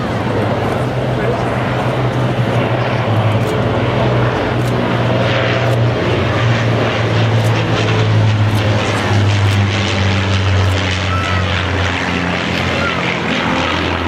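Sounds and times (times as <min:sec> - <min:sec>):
aircraft piston engines droning: 0:00.0 - 0:14.0.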